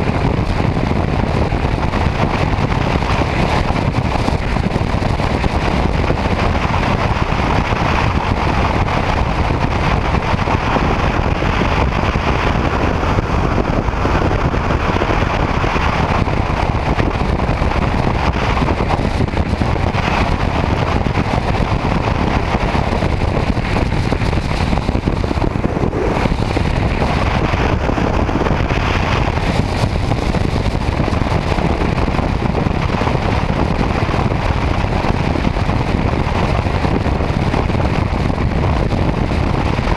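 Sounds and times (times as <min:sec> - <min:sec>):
motorcycle road noise: 0:00.0 - 0:39.9
wind rush: 0:00.0 - 0:39.9.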